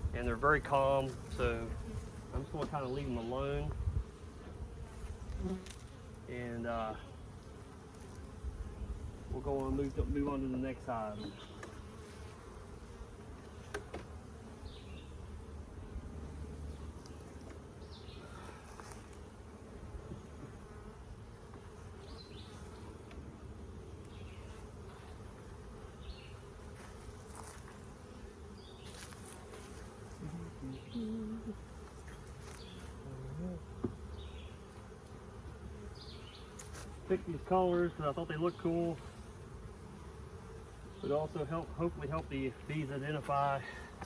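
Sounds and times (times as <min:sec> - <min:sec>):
honeybees buzzing: 0:00.0 - 0:44.0.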